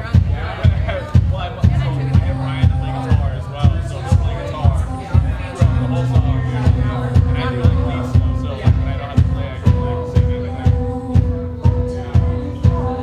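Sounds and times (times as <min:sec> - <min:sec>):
drum beat: 0:00.0 - 0:13.0
long held notes: 0:01.6 - 0:13.0.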